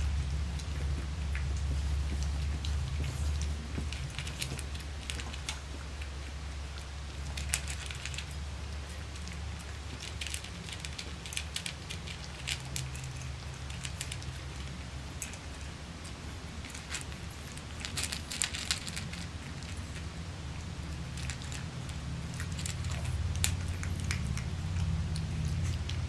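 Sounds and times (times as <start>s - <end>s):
low steady hum: 0.0s - 26.0s
puppies crunching dry kibble: 0.0s - 26.0s.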